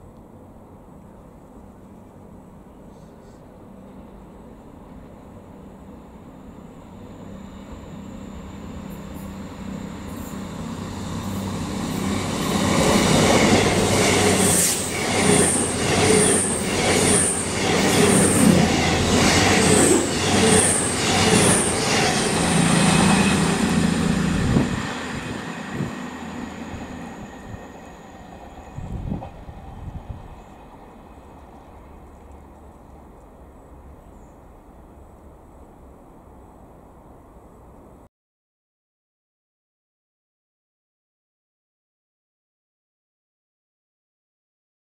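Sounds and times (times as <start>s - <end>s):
diesel train passing at speed: 0.0s - 38.0s.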